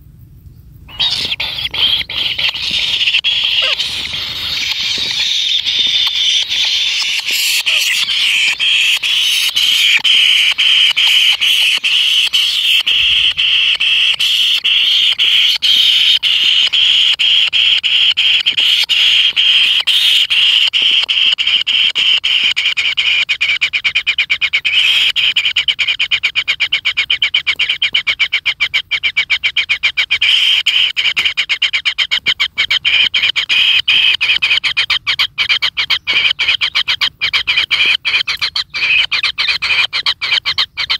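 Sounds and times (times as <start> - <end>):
nestlings rasping calls: 0.9 - 40.9.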